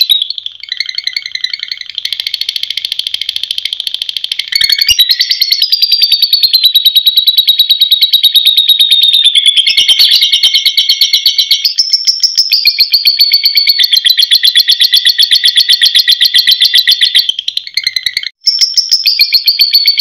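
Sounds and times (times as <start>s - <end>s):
lovebird chattering trill: 0.0s - 20.0s.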